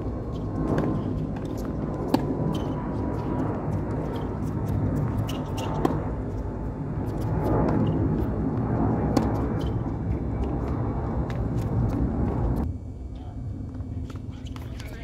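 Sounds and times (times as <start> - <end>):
low rumble: 0.0 - 14.4.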